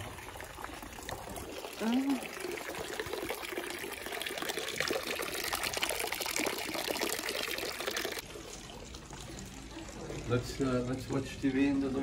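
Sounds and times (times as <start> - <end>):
water pouring into trough: 0.0 - 12.0.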